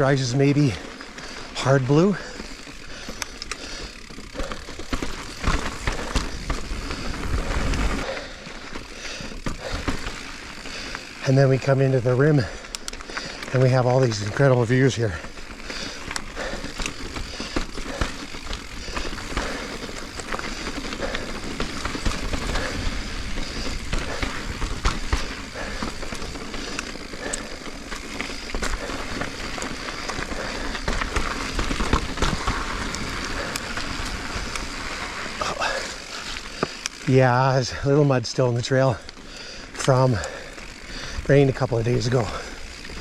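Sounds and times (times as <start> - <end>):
bike knocking and rattling: 0.0 - 43.0.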